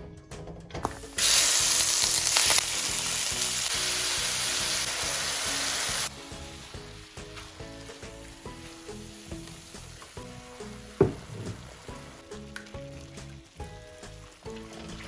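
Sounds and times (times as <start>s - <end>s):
background music: 0.0s - 15.0s
food sizzling in hot oil: 1.0s - 15.0s.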